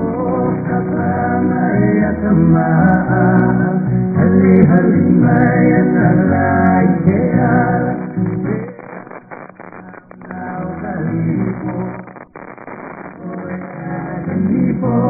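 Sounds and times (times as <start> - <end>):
man singing: 0.0 - 12.2, 13.1 - 15.0
guitar: 0.0 - 15.0.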